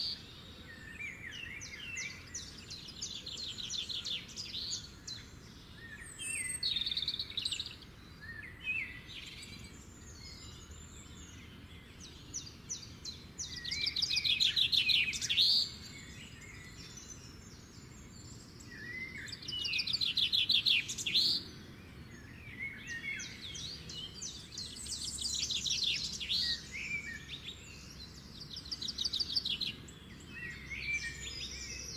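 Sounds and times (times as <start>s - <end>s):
songbirds singing trills: 0.0s - 31.9s.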